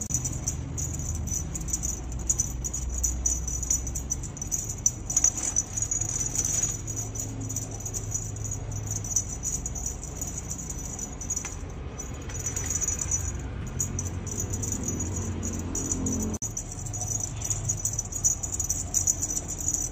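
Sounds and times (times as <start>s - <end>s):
small bell jingling: 0.0s - 19.9s.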